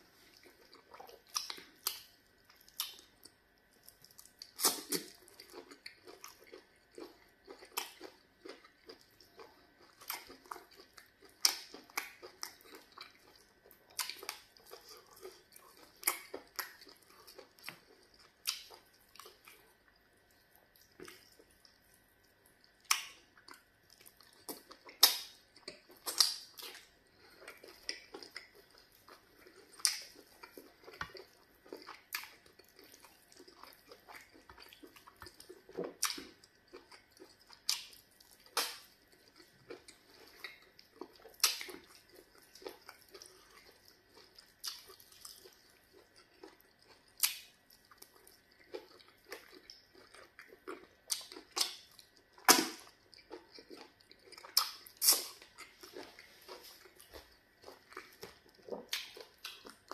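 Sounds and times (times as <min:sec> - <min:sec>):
wet mouth smacks and chewing: 0:00.4 - 0:19.7, 0:20.7 - 0:59.9.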